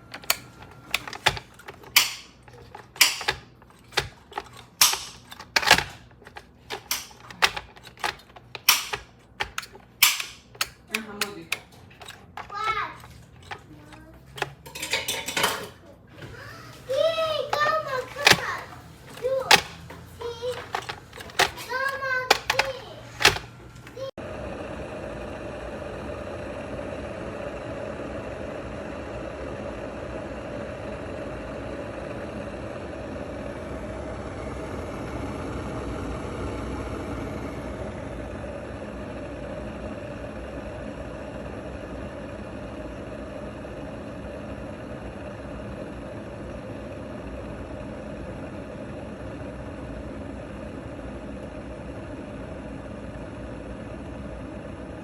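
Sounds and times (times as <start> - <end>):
electric kettle heating water: 0.0 - 55.0.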